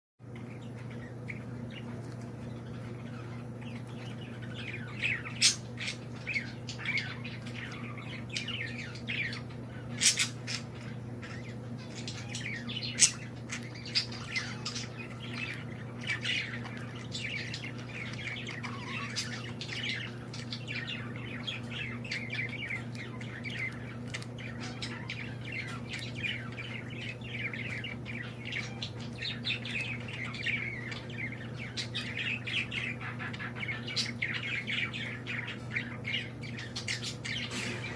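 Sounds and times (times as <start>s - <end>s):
steady low hum: 0.2s - 37.9s
birds chirping and squawking: 0.3s - 37.9s.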